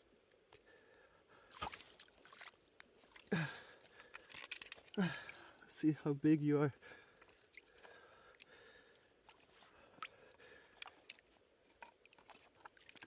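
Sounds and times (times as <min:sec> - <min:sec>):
low background hiss: 0:00.0 - 0:12.2.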